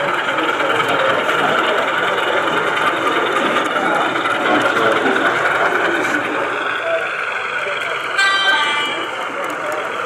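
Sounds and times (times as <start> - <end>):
murmur of people talking: 0.0 - 10.0.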